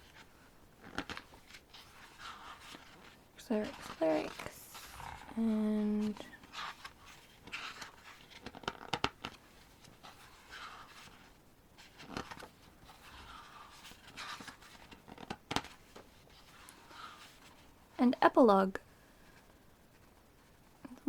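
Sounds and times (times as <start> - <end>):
paper pages rustling: 0.0 - 17.8.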